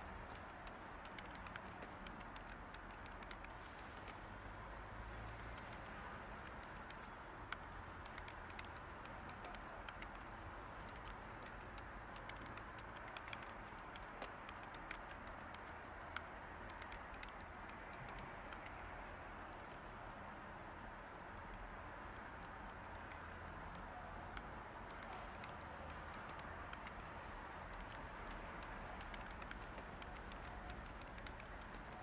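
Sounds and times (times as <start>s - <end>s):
white noise hiss: 0.0s - 32.0s
computer keyboard typing: 0.2s - 4.3s, 5.2s - 19.0s, 22.4s - 32.0s.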